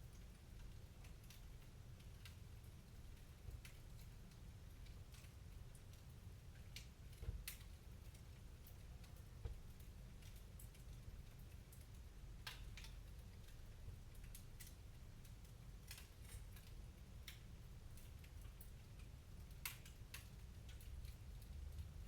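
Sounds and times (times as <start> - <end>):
fire crackling and popping: 0.2 - 21.8.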